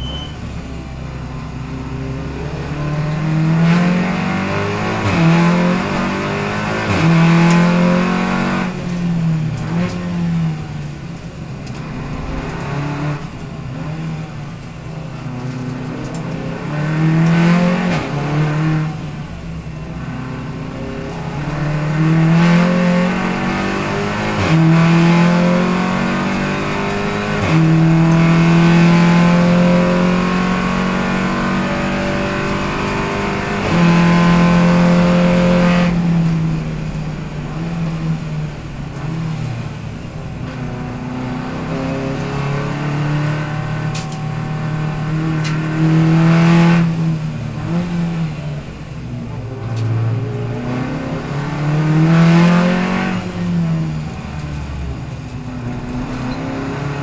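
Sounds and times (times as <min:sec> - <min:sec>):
race car engine accelerating through gears: 0:00.0 - 0:57.0.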